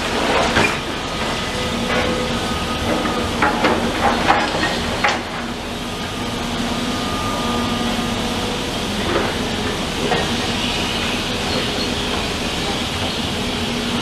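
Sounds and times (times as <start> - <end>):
heavy demolition machinery running: 0.0 - 14.0.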